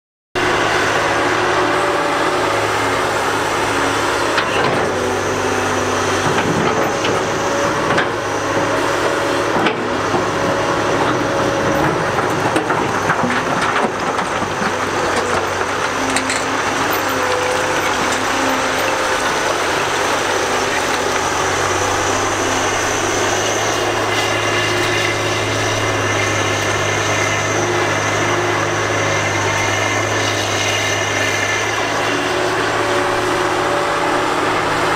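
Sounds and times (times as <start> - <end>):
excavator diesel engine running: 0.4 - 34.9.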